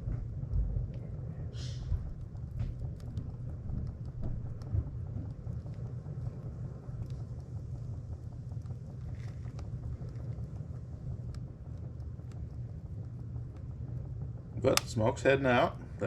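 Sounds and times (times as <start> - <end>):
kindling fire crackling: 0.0 - 16.0
low fire rumble: 0.0 - 16.0.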